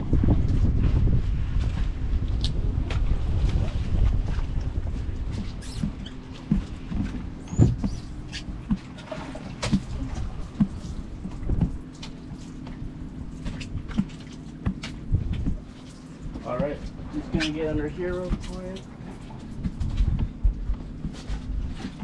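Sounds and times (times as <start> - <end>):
light knocks and taps on boat: 1.6 - 22.0.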